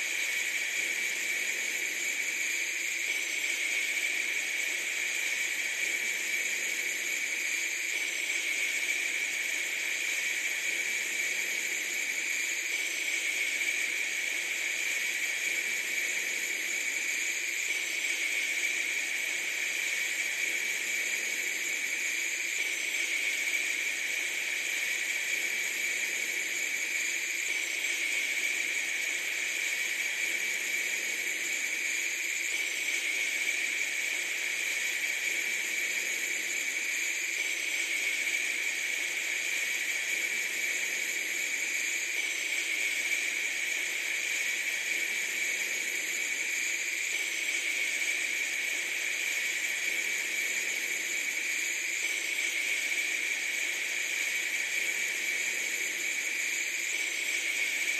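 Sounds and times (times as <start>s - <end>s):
steady hiss: 0.0s - 57.9s.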